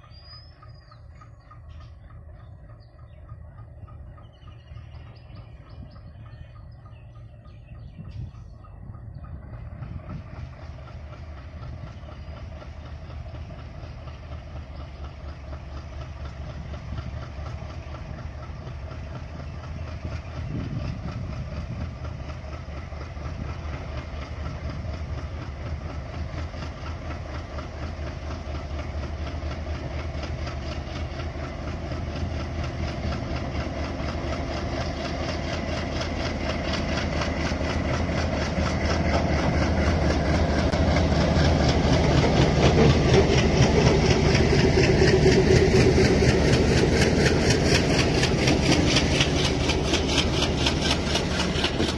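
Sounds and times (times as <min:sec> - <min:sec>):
locomotive engine rumbling: 0:00.0 - 0:51.9.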